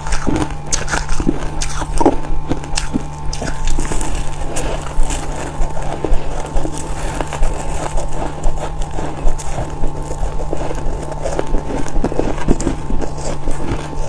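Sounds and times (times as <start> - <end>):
frost being bitten and chewed: 0.0 - 14.0
steady low hum: 0.0 - 14.0.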